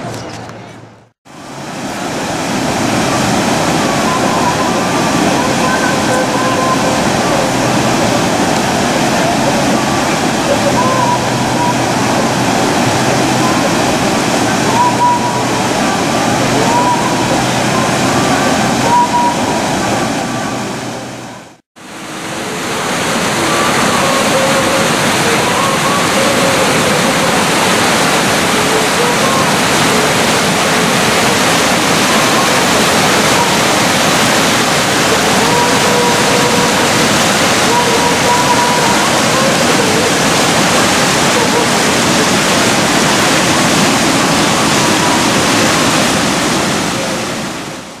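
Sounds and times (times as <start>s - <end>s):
river water rushing: 1.3s - 48.0s.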